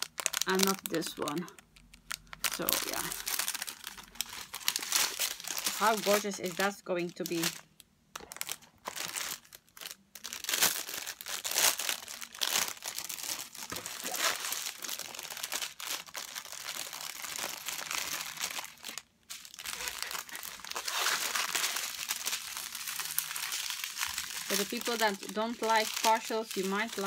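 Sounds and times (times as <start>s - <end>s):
small plastic bags crinkling: 0.0s - 27.0s.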